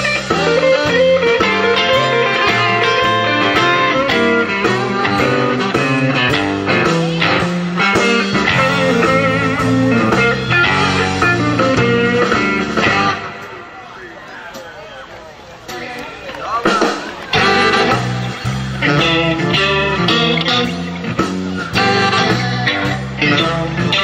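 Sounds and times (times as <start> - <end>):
walking bass line: 0.0 - 13.6, 14.4 - 24.0
live blues-rock band: 0.0 - 13.8, 15.6 - 24.0
lead guitar: 0.0 - 24.0.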